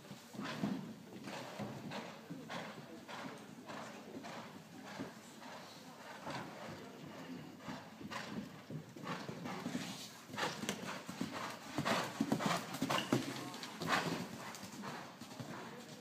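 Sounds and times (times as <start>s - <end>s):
horse hoofbeats cantering: 0.5s - 16.0s.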